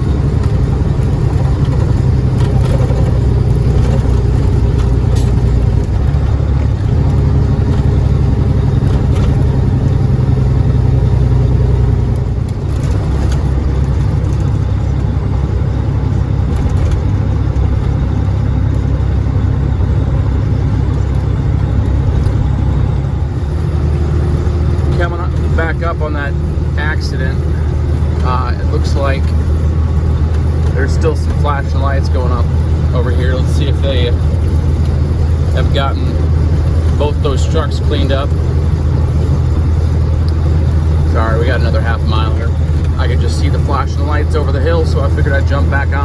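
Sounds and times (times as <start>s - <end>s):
road noise: 0.0s - 46.0s
truck diesel engine pulling: 0.0s - 46.0s.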